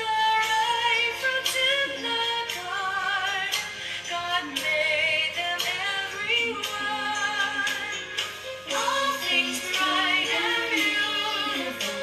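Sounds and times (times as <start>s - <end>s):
musical accompaniment: 0.0s - 12.0s
woman singing: 0.0s - 12.0s.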